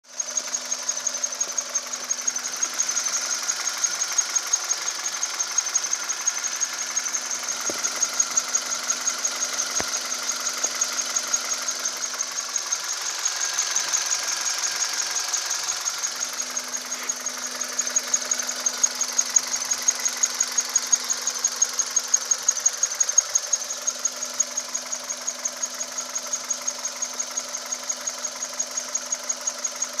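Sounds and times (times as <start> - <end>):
car engine running: 0.1 - 30.0.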